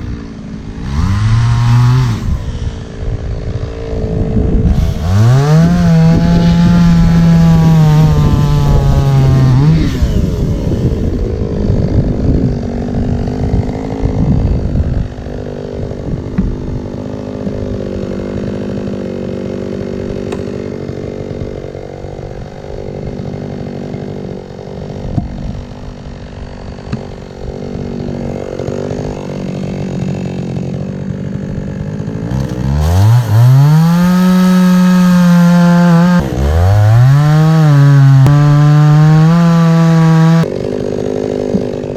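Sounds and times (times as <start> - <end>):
chainsaw cutting logs: 0.0 - 41.9.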